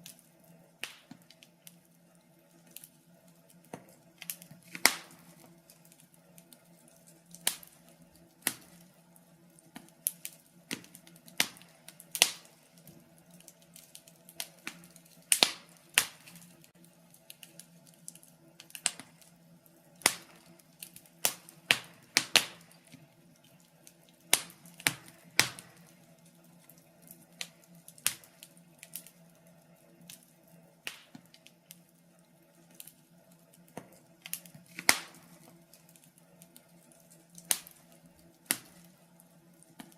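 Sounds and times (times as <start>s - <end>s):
fireplace logs crackling: 0.0s - 39.9s.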